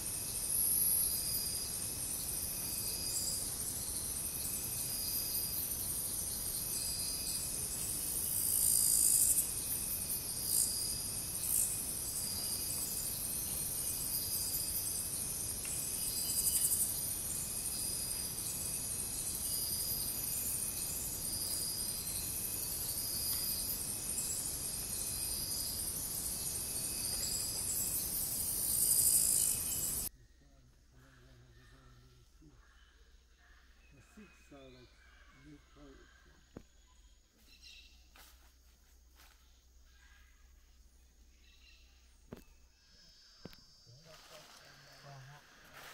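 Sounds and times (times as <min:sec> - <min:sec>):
short insect calls: 0:00.0 - 0:30.1, 0:30.8 - 0:45.9
insects buzzing and trilling: 0:00.0 - 0:45.9.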